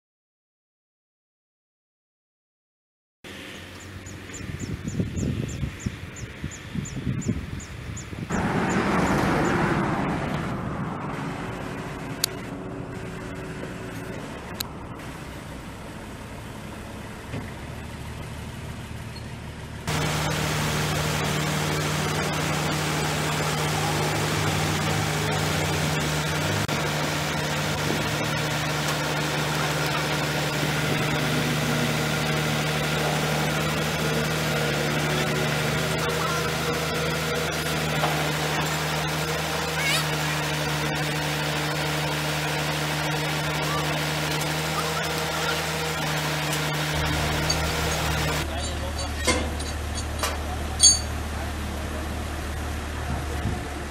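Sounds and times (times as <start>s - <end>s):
crane diesel engine running: 7.6s - 53.9s.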